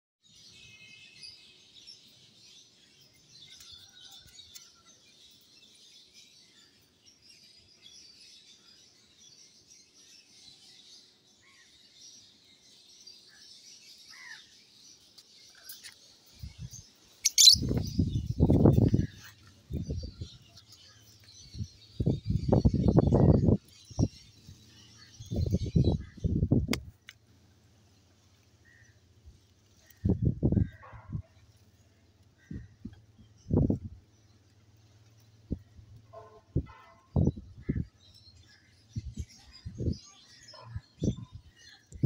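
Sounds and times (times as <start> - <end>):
small birds twittering: 0.2 - 42.0.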